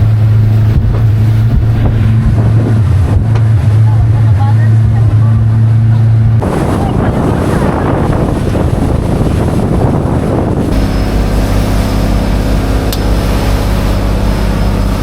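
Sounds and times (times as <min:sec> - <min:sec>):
wind noise: 0:00.0 - 0:12.2
engine running: 0:00.0 - 0:15.0.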